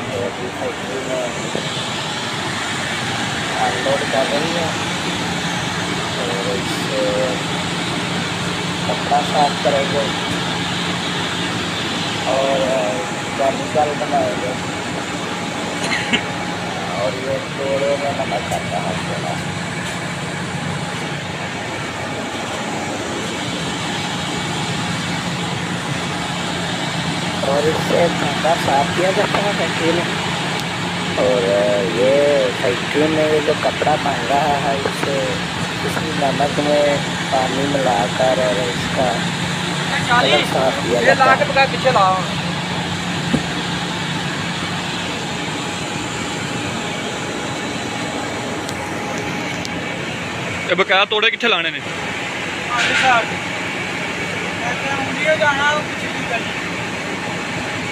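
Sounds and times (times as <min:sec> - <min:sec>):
factory machinery running: 0:00.0 - 0:57.9
low mechanical hum: 0:00.0 - 0:57.9.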